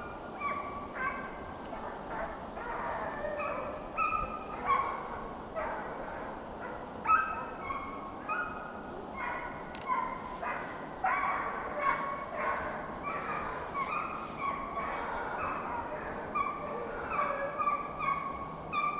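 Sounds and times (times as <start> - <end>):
wind and rain hiss: 0.0 - 17.6
dogs barking and baying: 0.0 - 18.9.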